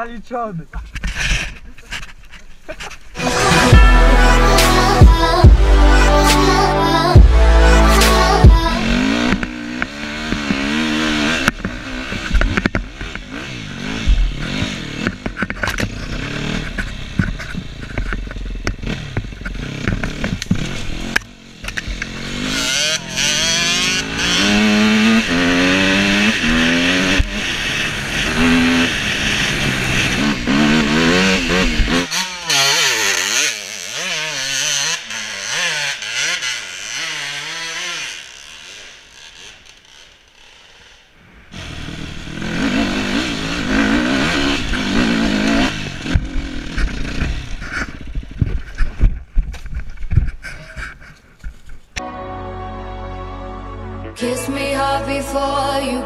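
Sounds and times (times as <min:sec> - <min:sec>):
dirt bike engine revving: 0:03.2 - 0:48.3.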